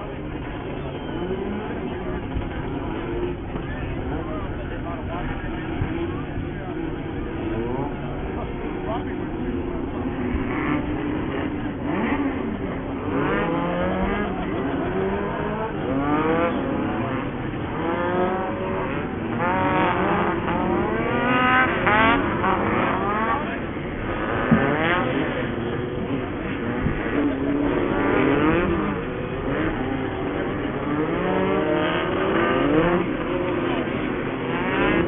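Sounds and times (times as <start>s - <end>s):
racing buggy engines revving: 0.0s - 35.0s.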